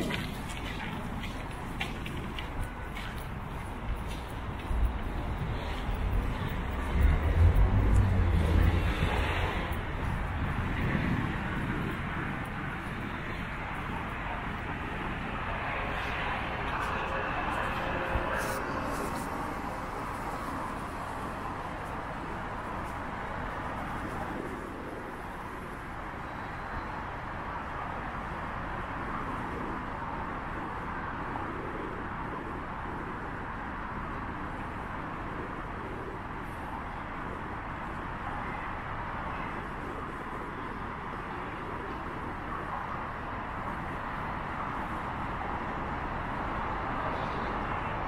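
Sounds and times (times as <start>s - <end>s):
distant road traffic hum: 0.0s - 48.0s.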